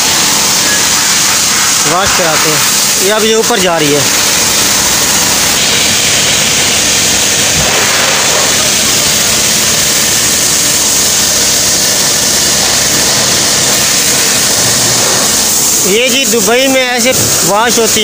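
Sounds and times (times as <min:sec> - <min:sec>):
hiss of water spray and air: 0:00.0 - 0:18.0.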